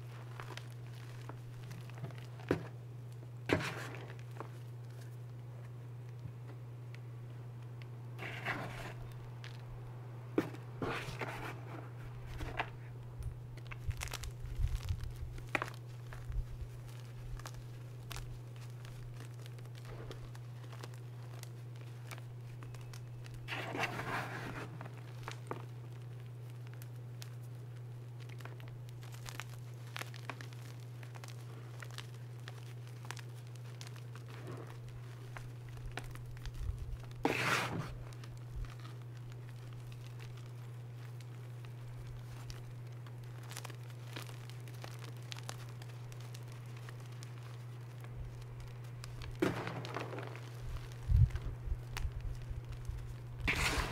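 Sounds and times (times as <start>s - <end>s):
chalk chunks crunching: 0.0s - 6.2s, 8.2s - 9.7s, 10.4s - 53.9s
steady low hum: 0.0s - 53.9s.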